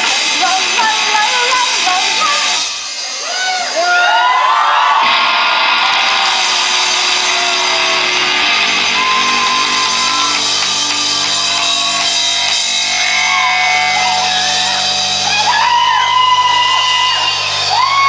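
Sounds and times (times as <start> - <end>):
distorted electric guitar: 0.0 - 4.2, 5.0 - 18.0
drums and crashing cymbals: 0.0 - 18.0.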